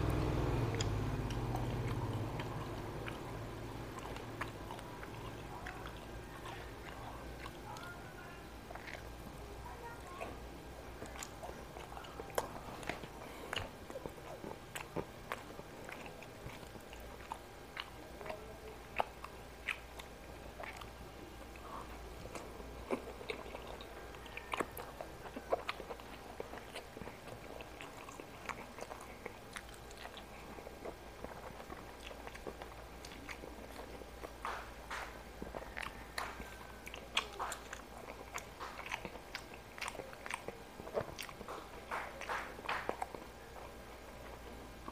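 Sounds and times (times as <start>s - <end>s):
person chewing and crunching food: 0.0s - 44.9s.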